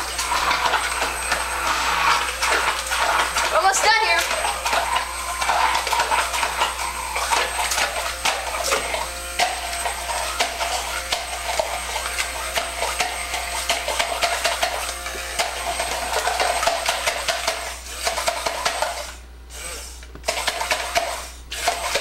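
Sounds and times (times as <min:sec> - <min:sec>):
hand blender motor buzz: 0:00.0 - 0:22.0.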